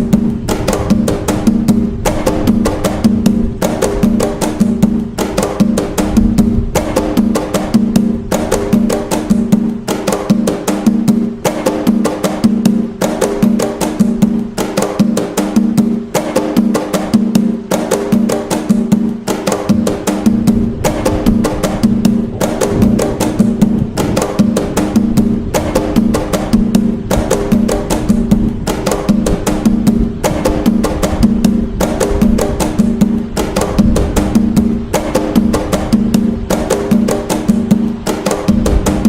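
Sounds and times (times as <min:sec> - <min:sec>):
hand drums playing a rhythm: 0:00.0 - 0:39.0.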